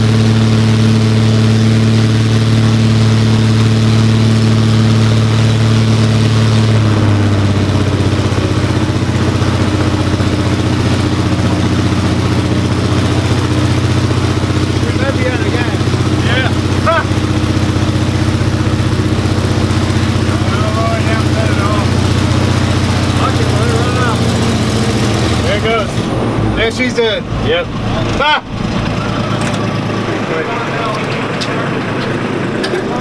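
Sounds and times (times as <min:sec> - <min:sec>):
aircraft engine running: 0:00.0 - 0:33.0.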